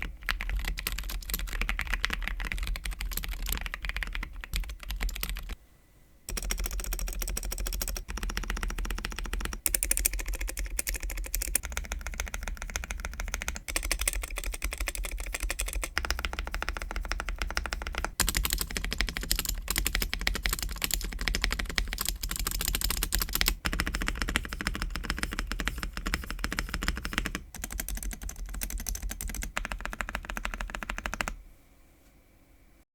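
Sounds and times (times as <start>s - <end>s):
mechanical keyboard typing: 0.0s - 5.6s, 6.3s - 31.4s.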